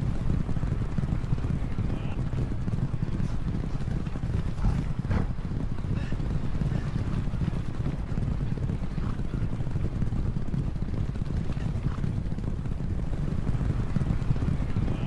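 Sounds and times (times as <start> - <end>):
horses galloping hoofbeats: 0.0 - 15.0.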